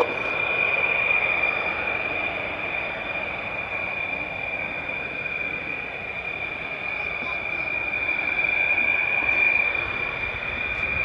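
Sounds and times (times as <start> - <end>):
jet engines whining at low power: 0.0 - 11.0.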